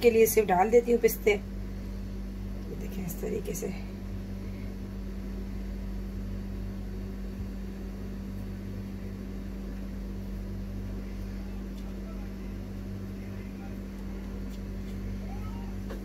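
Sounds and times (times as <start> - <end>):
low electrical hum with hiss: 0.0 - 16.0.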